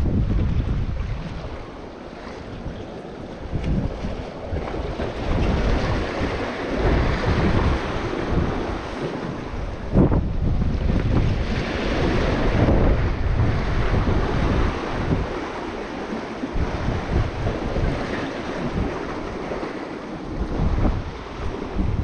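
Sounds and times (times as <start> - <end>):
waves washing on shore: 0.0 - 22.0
wind buffeting microphone: 0.0 - 22.0.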